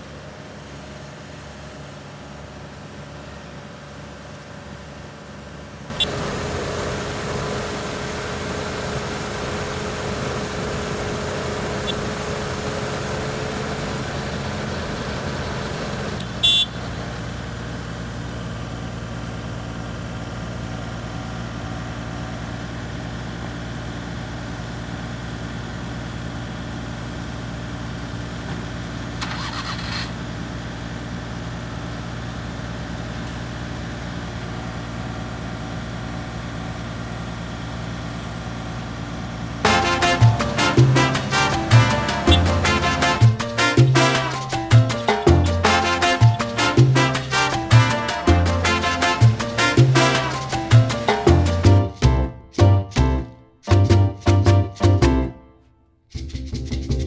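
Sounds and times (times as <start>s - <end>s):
vehicle engine idling: 5.9s - 46.4s, 47.0s - 55.3s.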